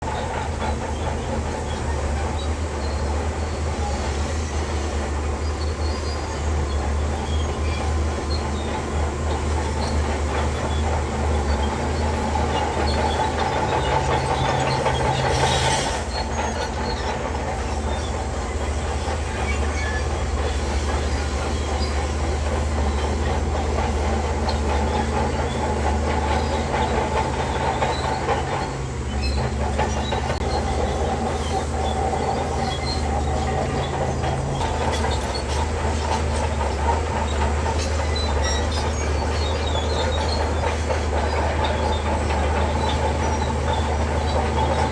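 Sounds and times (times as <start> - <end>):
bulldozer diesel engine drone: 0.0 - 44.9
steel tracks clattering and squealing: 0.0 - 44.9.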